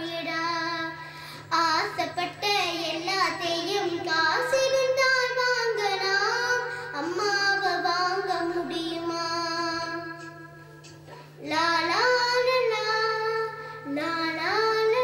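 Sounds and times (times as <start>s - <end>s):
girl singing into a microphone: 0.0s - 10.5s, 11.4s - 15.0s
steady low hum: 0.0s - 15.0s.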